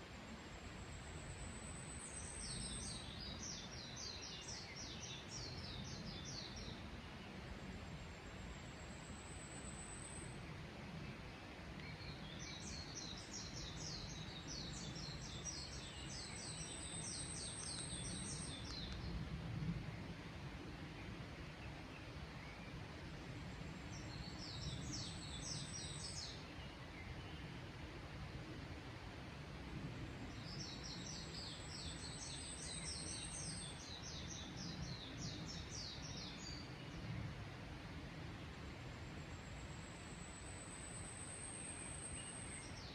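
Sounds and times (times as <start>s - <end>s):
low background hiss: 0.0s - 42.9s
songbird singing: 0.0s - 42.9s.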